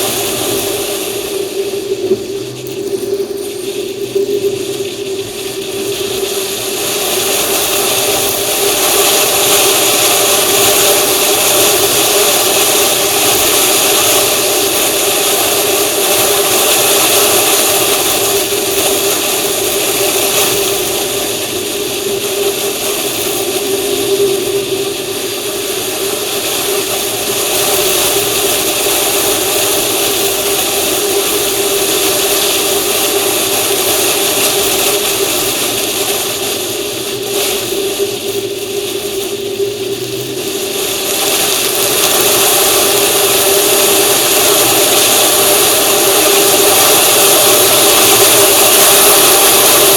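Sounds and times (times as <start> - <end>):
continuous hiss: 0.0 - 49.9.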